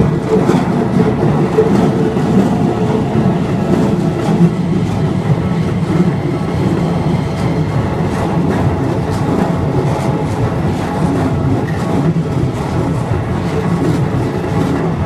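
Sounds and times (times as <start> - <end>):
electric train rumbling past: 0.0 - 15.0
wheels clicking over rail joints: 0.0 - 15.0.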